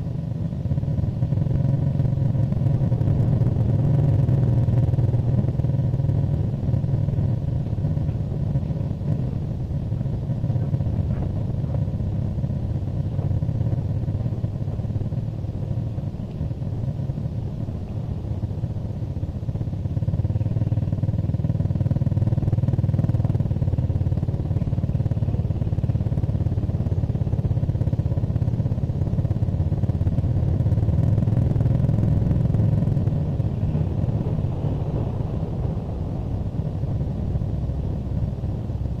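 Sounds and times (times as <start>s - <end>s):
vehicle engine rumbling: 0.0s - 39.0s.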